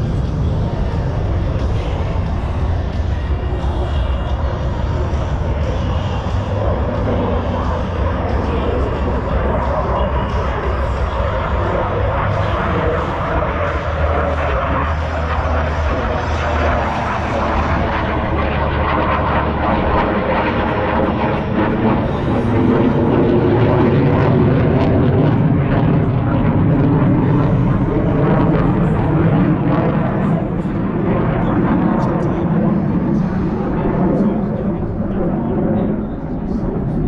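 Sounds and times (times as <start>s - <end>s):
jet aircraft flying past: 0.0s - 37.0s.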